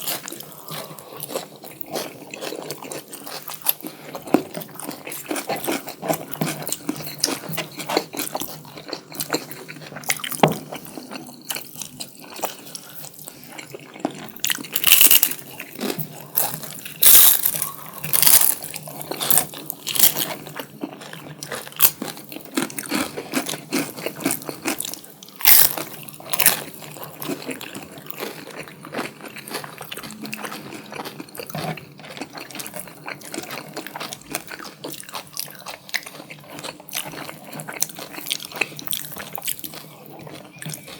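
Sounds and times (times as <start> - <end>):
chewing and biting food: 0.0 - 40.9.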